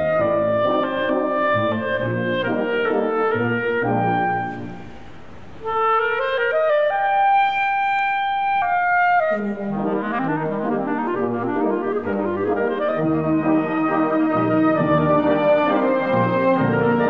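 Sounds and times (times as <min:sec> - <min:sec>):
solo clarinet: 0:00.0 - 0:17.0
wind ensemble with brass: 0:00.0 - 0:17.0.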